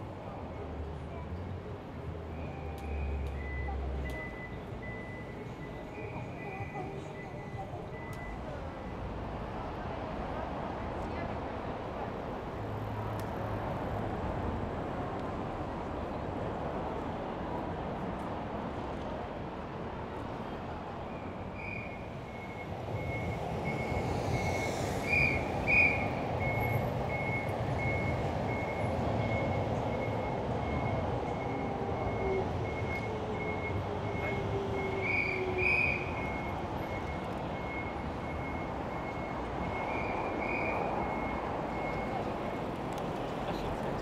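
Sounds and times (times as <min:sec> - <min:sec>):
street traffic: 0:00.0 - 0:44.0.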